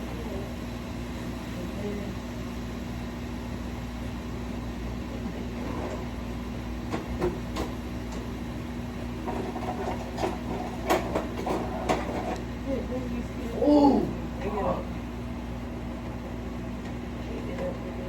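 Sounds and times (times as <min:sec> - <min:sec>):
kitchen hum: 0:00.0 - 0:18.0.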